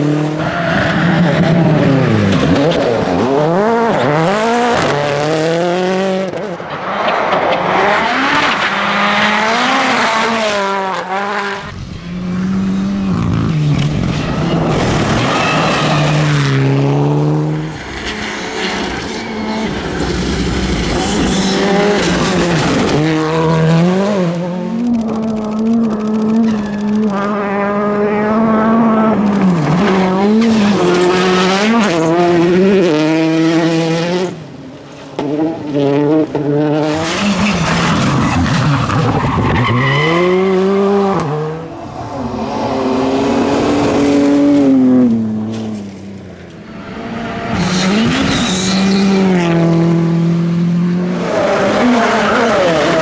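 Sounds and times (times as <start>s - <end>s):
rally car engines revving: 0.0s - 53.0s.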